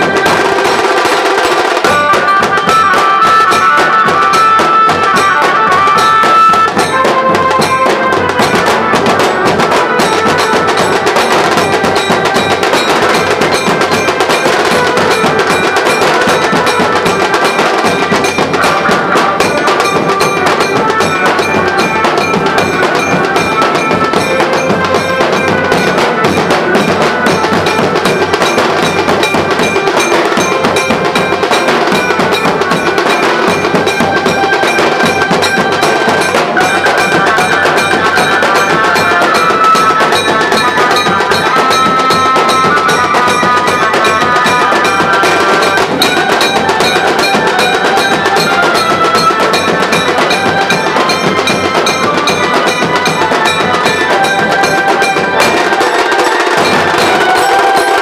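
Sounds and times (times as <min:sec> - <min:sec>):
barrel drums beating: 0:00.0 - 0:58.0
drum kit: 0:00.0 - 0:58.0
melody line: 0:02.2 - 0:58.0.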